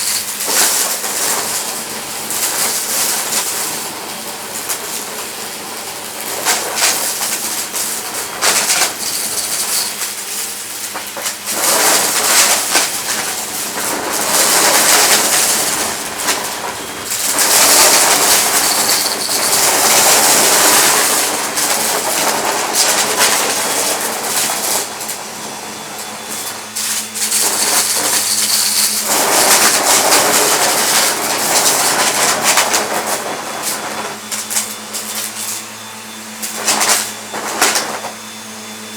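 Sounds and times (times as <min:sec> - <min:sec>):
debris rattling through vacuum: 0:00.0 - 0:38.9
vacuum cleaner motor hum: 0:00.0 - 0:38.9.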